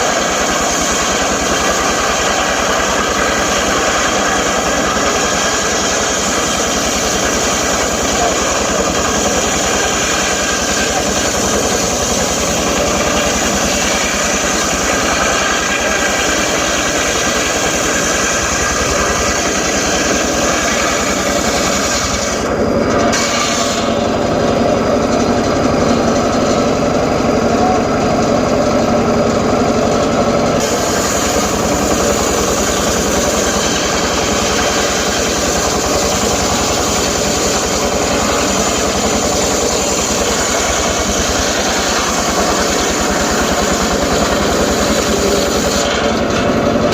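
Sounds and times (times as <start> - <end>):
circular saw cutting wood: 0.0 - 46.9.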